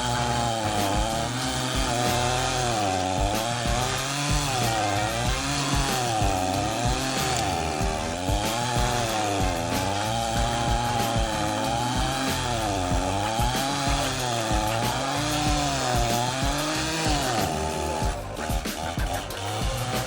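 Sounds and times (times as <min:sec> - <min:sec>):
chainsaw grinding tree stump: 0:00.0 - 0:20.0.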